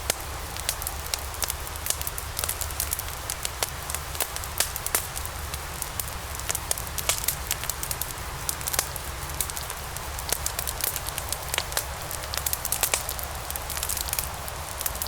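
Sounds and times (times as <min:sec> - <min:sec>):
fire burning: 0:00.0 - 0:15.0
fire crackling and popping: 0:00.0 - 0:15.0.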